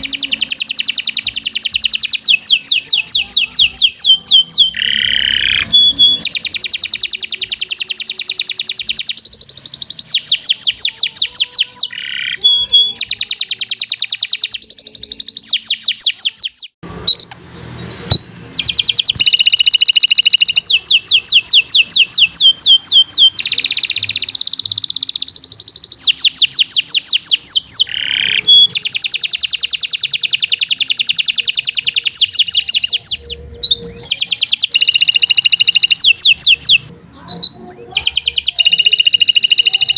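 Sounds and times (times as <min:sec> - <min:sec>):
canary trilling: 0:00.0 - 0:39.9.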